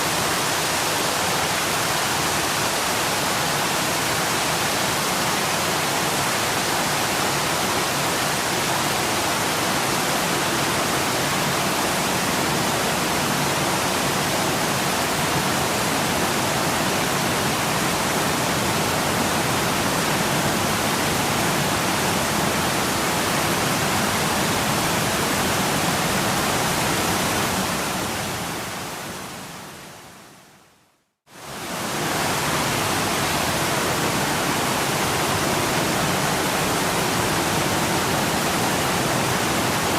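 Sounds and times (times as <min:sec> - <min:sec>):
waterfall rushing: 0:00.0 - 0:30.2, 0:31.4 - 0:39.9.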